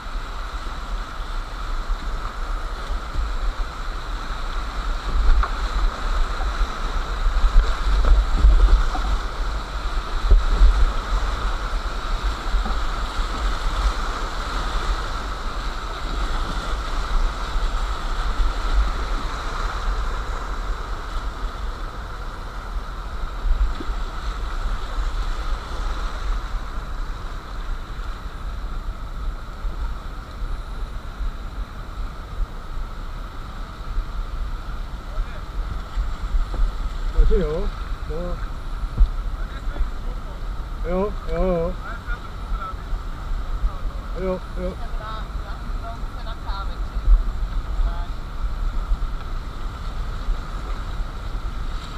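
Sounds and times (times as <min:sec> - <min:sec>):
whitewater rushing: 0:00.0 - 0:51.9
wind buffeting microphone: 0:00.0 - 0:51.9.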